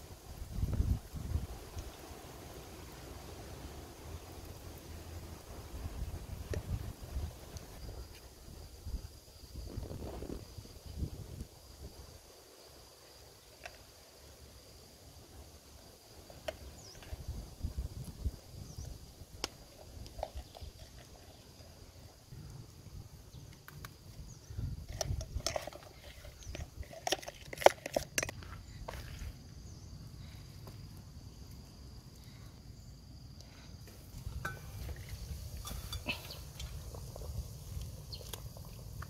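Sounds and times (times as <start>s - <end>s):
faint insect buzz: 0.0s - 26.8s, 28.4s - 39.0s.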